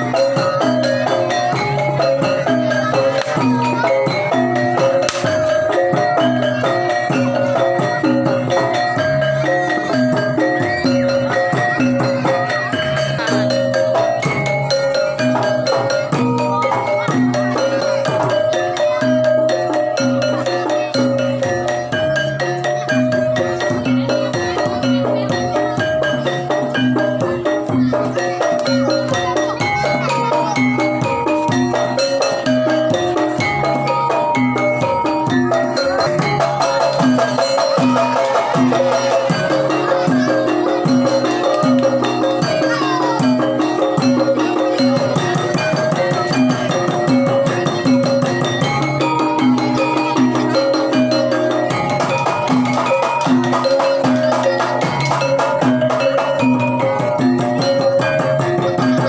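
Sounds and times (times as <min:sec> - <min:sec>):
drums: 0:00.0 - 0:59.0
gamelan music: 0:00.0 - 0:59.0
ringing metallophone notes: 0:00.0 - 0:59.0.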